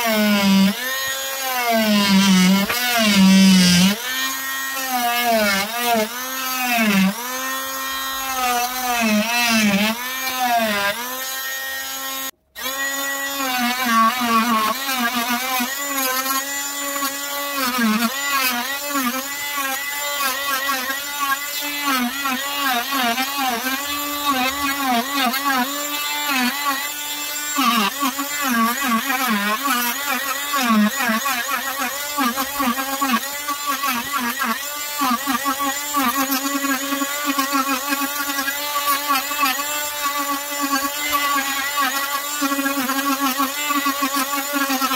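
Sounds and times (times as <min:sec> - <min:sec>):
oscillating multi-tool cutting wood: 0:00.0 - 0:44.9.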